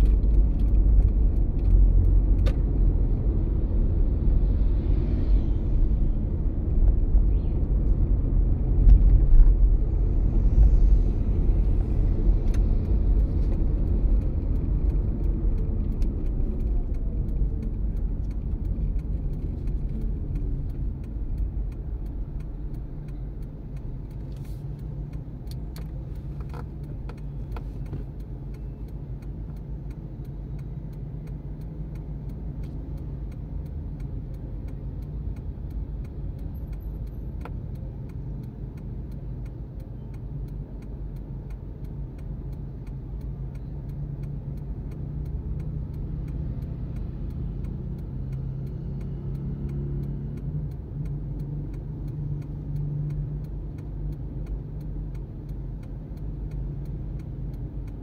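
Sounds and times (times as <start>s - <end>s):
faint regular ticking: 11.4s - 58.0s.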